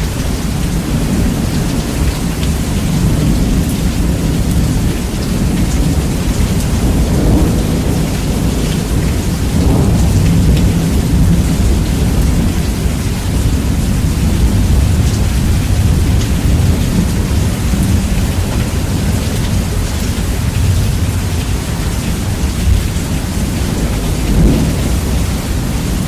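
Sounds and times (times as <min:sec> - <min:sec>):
rain hissing: 0:00.0 - 0:26.0
rumbling thunder: 0:00.0 - 0:26.0.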